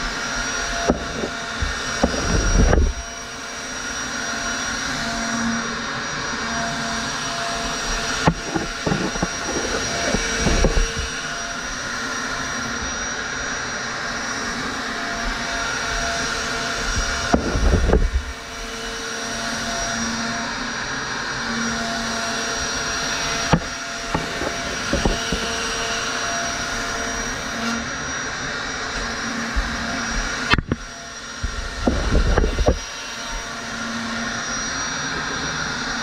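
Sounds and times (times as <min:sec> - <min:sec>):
router whining: 0:00.0 - 0:36.0.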